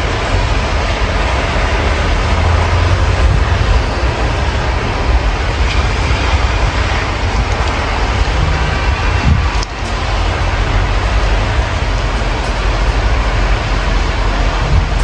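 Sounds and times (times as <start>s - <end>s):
loud low rumble: 0.0s - 15.0s
steady rain: 0.0s - 15.0s.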